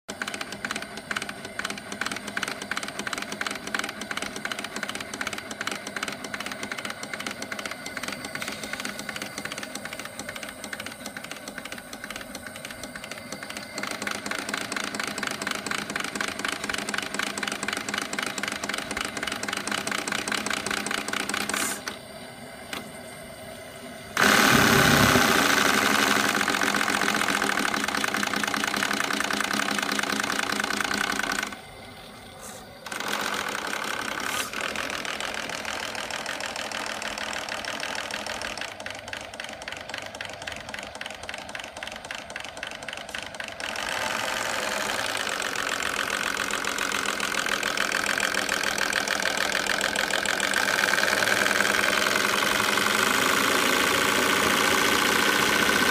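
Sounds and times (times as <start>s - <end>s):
model steam engine clattering: 0.1s - 22.0s, 24.2s - 31.7s, 32.4s - 55.9s.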